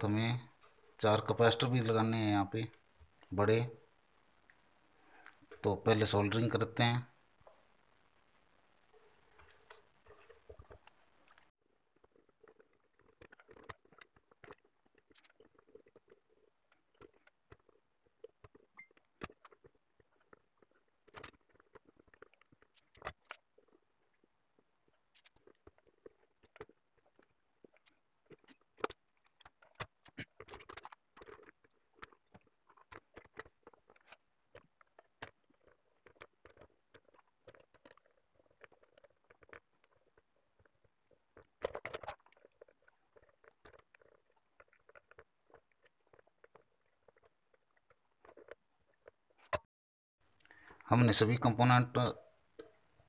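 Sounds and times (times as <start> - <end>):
faint clicks and rustling: 3.9 - 50.9.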